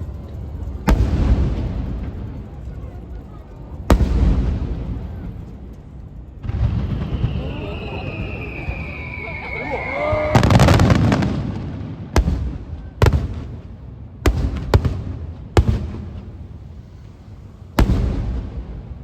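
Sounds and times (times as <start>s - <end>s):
fireworks bursting with crackling: 0.0s - 19.0s
sharp fireworks bangs: 0.1s - 2.9s, 3.8s - 19.0s.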